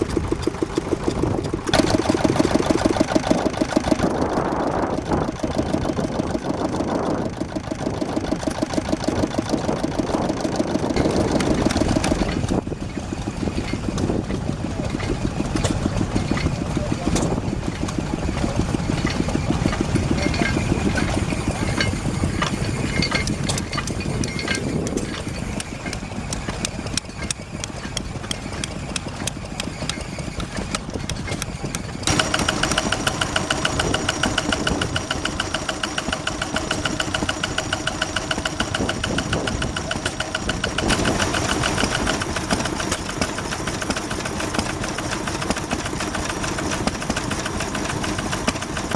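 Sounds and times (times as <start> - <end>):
engine with fast bright rhythm: 0.0 - 48.9
stationary engines running: 0.0 - 48.9.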